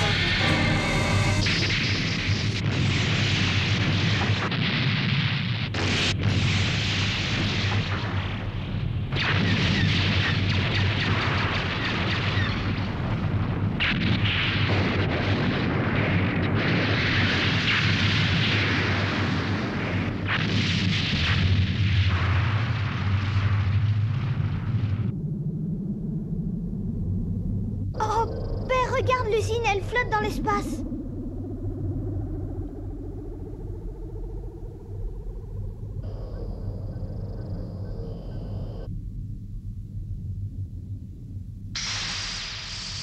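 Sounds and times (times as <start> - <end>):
explosion rumbling blast: 0.0 - 39.0.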